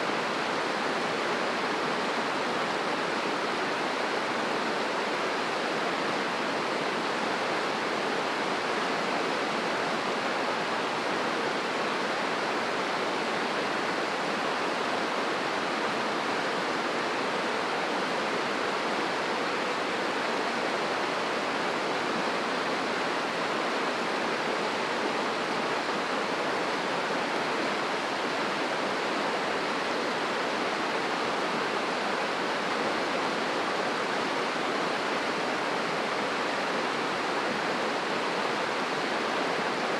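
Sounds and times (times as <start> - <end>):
river rushing: 0.1 - 39.9.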